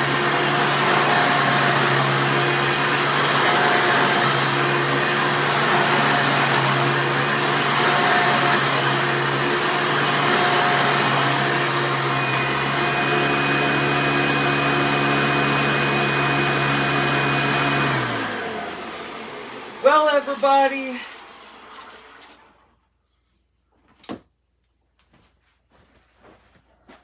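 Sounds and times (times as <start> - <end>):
vacuum cleaner running: 0.0 - 22.7.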